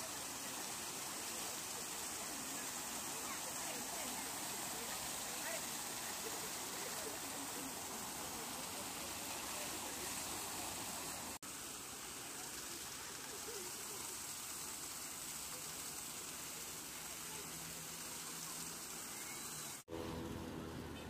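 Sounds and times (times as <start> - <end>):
fountain water splashing: 0.0 - 19.9.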